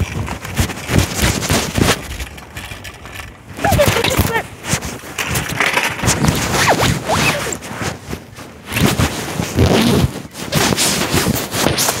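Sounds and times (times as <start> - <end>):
fabric rubbing against microphone: 0.0 - 2.2, 3.6 - 12.0.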